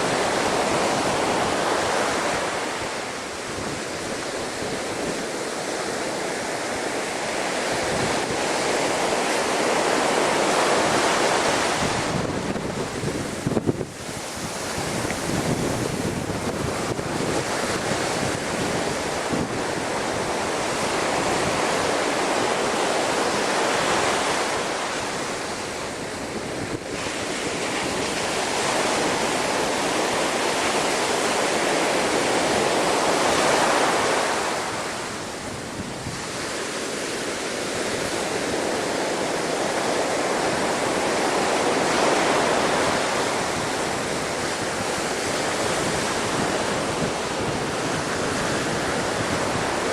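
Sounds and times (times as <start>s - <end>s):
storm waves breaking on a wall: 0.0s - 49.9s
wind buffeting microphone: 0.0s - 49.9s.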